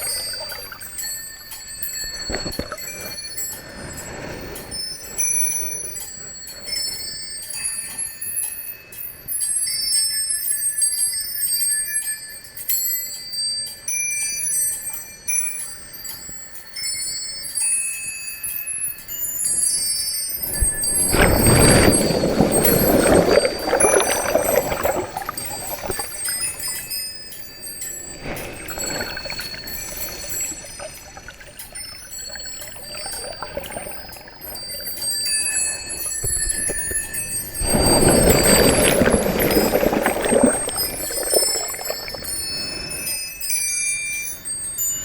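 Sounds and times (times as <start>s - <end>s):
small metal chimes tinkling: 0.0s - 21.1s, 23.0s - 38.8s, 40.3s - 45.0s.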